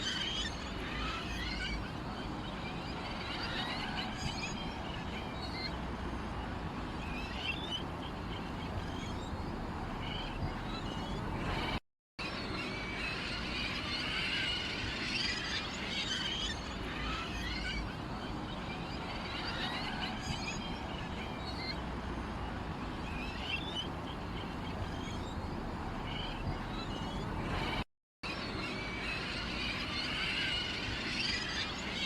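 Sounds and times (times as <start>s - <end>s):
songbirds chirping: 0.0s - 27.8s.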